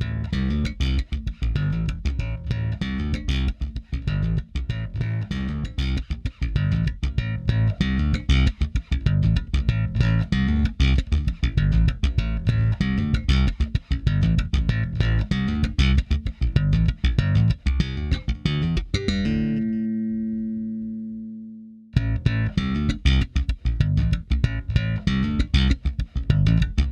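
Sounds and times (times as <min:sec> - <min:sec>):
electric bass guitar riff: 0:00.0 - 0:26.9.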